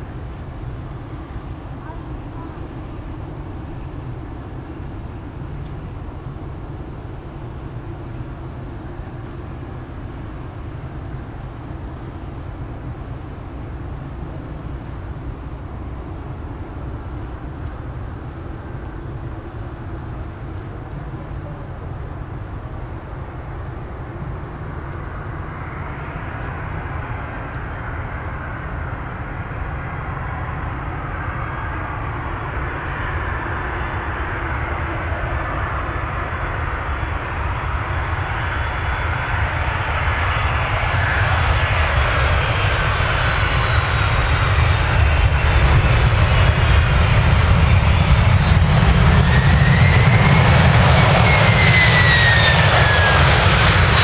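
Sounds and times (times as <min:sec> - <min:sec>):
jet airliner engine noise: 0:00.0 - 0:54.0.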